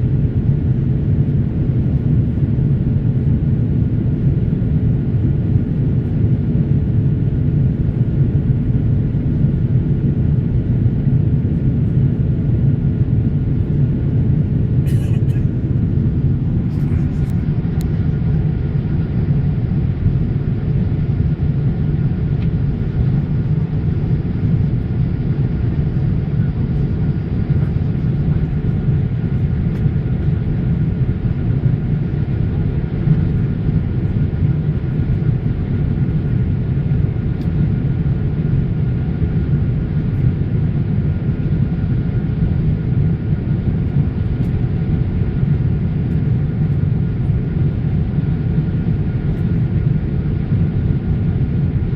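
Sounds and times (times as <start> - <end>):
jet engine rumble: 0.0 - 51.9.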